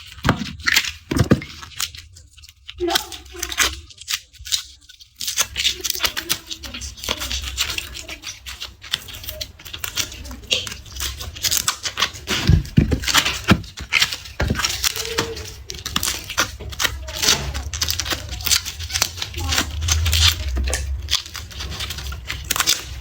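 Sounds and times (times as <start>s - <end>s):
garlic skins crackling: 0.0s - 23.0s.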